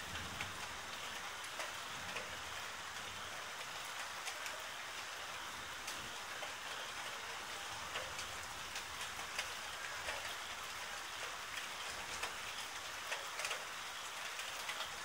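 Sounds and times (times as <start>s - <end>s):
raindrops ticking on surface: 0.0s - 15.0s
steady rain hiss: 0.0s - 15.0s.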